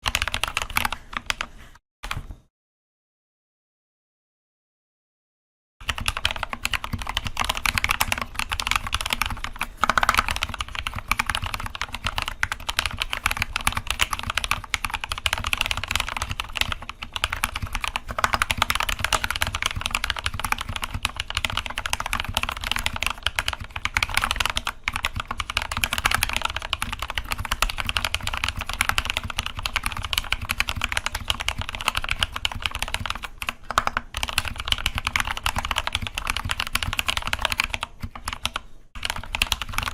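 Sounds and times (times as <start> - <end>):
fast mechanical keyboard typing: 0.0 - 1.5, 5.8 - 39.9.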